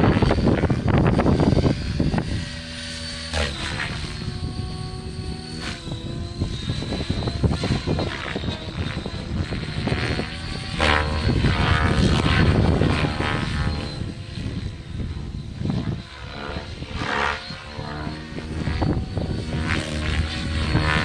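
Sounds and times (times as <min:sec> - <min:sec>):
rc helicopter motor whine: 0:00.0 - 0:21.0.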